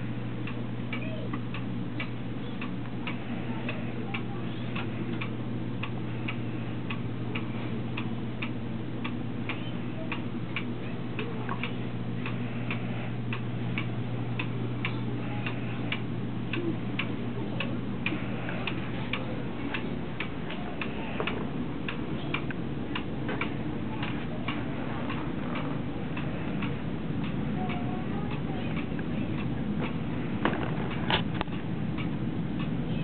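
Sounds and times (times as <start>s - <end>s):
constant low hum: 0.0s - 33.0s
steady ticking: 0.0s - 33.0s.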